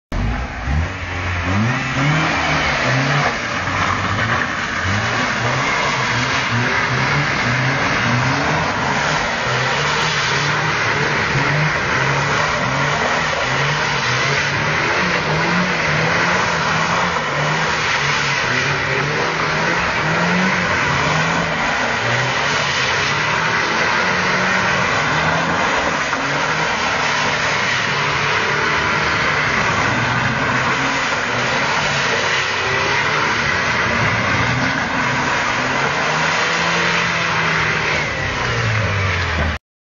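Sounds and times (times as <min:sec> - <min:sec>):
car engine revving: 0:00.1 - 0:39.6.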